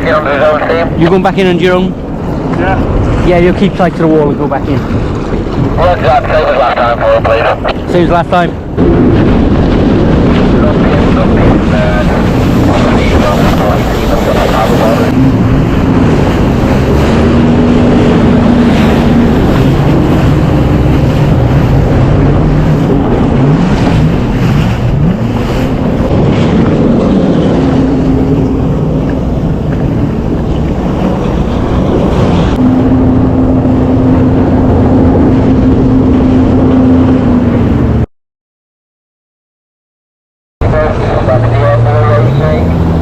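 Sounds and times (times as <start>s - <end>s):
jet ski engine running: 0.0s - 38.0s, 40.6s - 43.0s
water rushing: 0.0s - 38.0s, 40.6s - 43.0s
wind noise on microphone: 0.0s - 38.1s.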